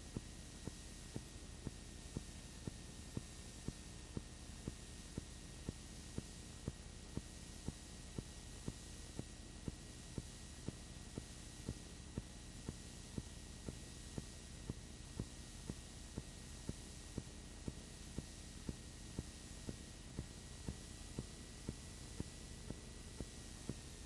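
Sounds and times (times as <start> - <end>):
film hiss and hum: 0.0 - 24.0.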